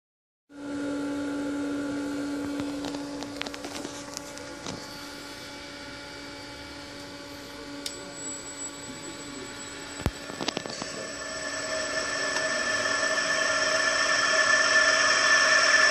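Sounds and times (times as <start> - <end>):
inverter drive and motor hum: 0.6 - 15.9
thin high whine: 0.6 - 15.9.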